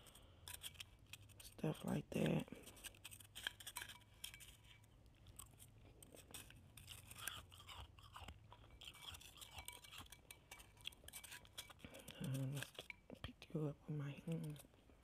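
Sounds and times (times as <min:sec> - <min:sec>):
spoon scraping shaved ice: 0:00.0 - 0:14.7.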